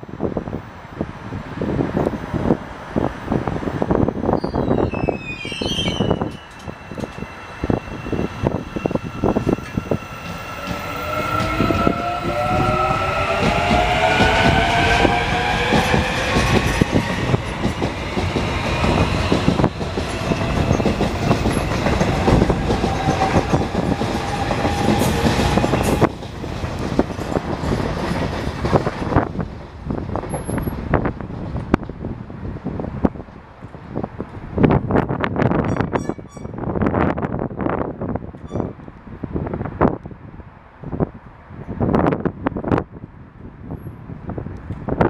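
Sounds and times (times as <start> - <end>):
wheels rattling on rail: 0.3 - 38.9.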